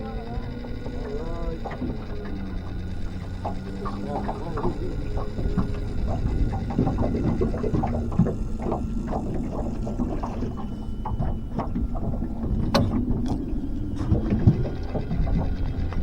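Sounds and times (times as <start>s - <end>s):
steady low rumble: 0.0s - 16.0s
water slapping against hull: 0.0s - 16.0s.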